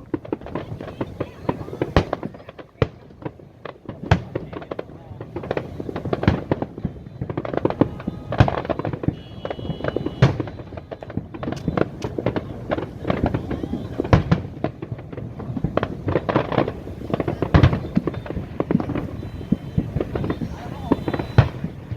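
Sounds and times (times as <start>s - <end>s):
fireworks bangs and crackling: 0.0s - 21.9s.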